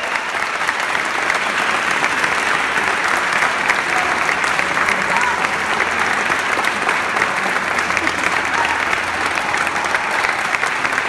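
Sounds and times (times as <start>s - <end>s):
congregation applauding: 0.0s - 11.0s.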